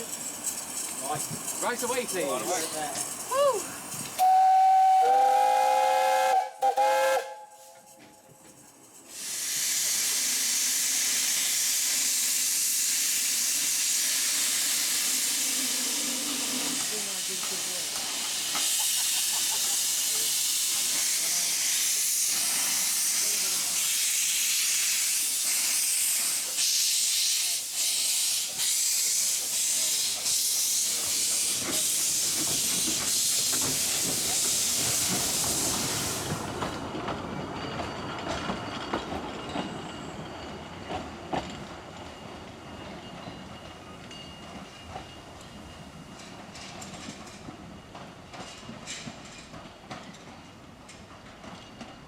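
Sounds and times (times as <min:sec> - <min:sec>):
train clattering over rails: 0:00.0 - 0:04.3, 0:13.7 - 0:52.0
steam locomotive hissing: 0:00.0 - 0:51.5.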